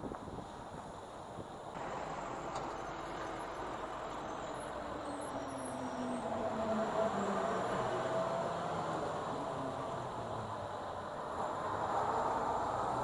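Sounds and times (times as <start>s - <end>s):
vehicle engine hum driving past: 1.8s - 13.0s.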